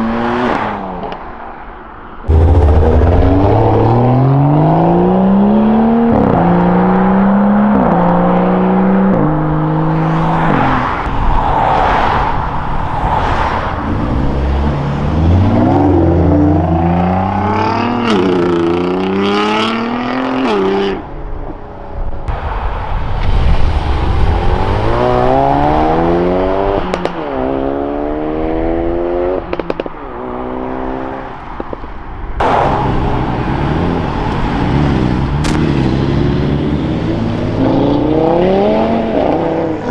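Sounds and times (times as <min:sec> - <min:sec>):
car engines revving: 0:02.3 - 0:21.1, 0:23.5 - 0:39.9.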